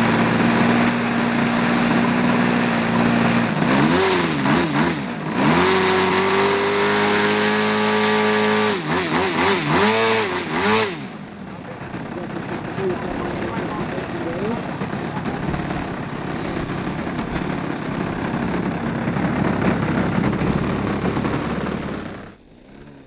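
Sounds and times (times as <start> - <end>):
model plane engine revving: 0.0 - 23.0.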